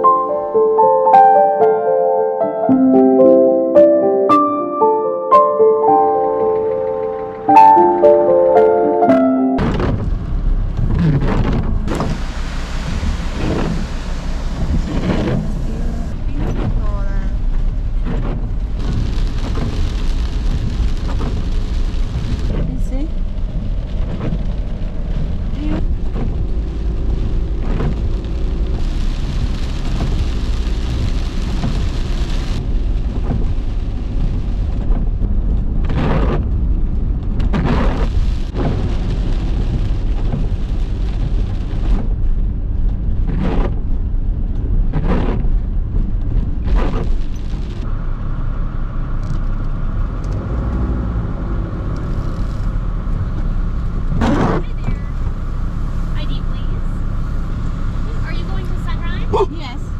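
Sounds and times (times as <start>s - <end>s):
van road and engine rumble: 5.4s - 59.9s.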